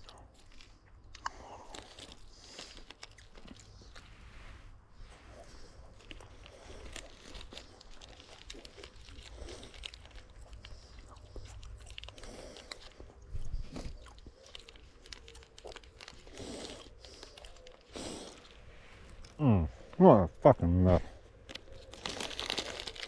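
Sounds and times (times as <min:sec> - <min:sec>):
crunching and chewing granola bar: 0:00.0 - 0:23.0.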